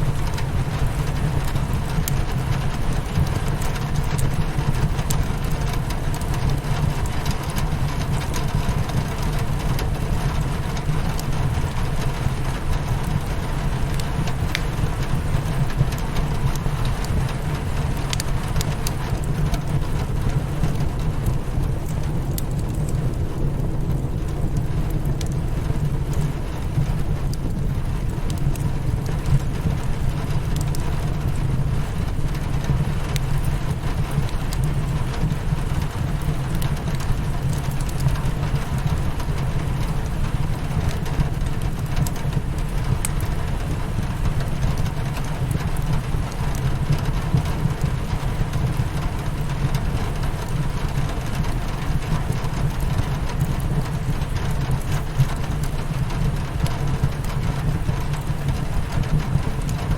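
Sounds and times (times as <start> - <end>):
fireplace crackling and popping: 0.0 - 59.9
rain on a window: 0.0 - 59.9.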